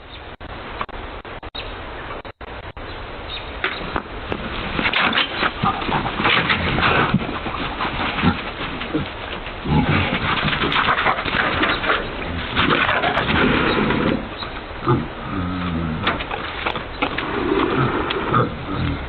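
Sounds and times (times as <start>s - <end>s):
steady noisy background: 0.0s - 19.0s
animal noises: 1.6s - 19.0s.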